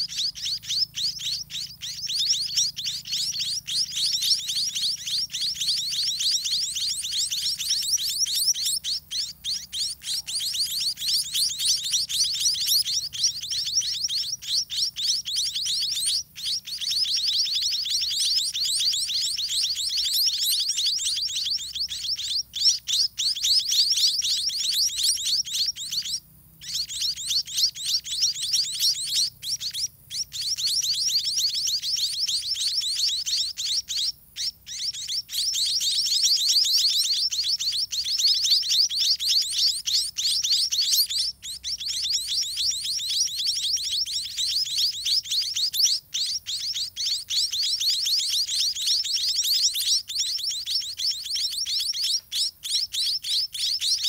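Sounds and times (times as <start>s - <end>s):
nestlings chirping: 0.0s - 54.0s.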